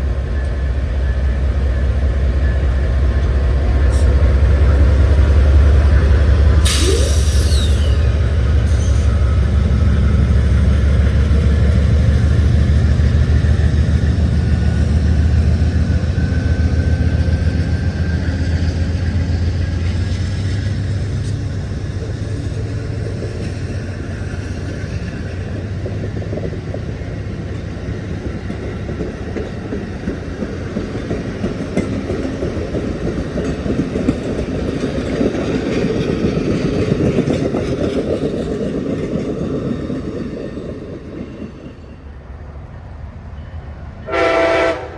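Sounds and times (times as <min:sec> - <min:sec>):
train wheels clicking over rail joints: 0:00.0 - 0:42.2
diesel locomotive engine rumble: 0:00.0 - 0:44.9.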